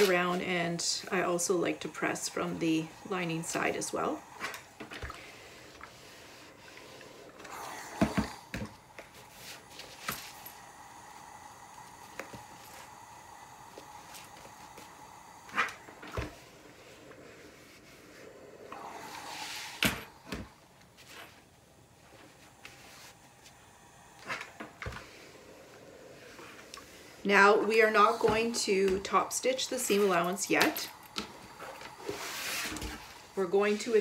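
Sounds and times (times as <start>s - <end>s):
iron gliding over cloth: 0.0s - 34.0s.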